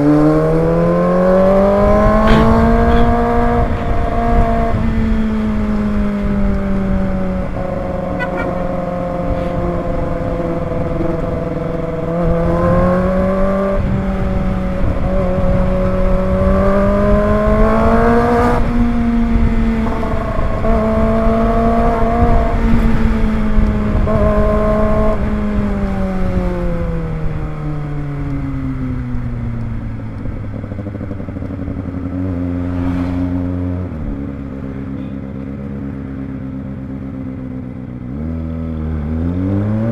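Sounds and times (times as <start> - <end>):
motorcycle engine revving high: 0.0 - 27.4, 30.3 - 35.3
wind rumble on microphone: 0.0 - 32.0.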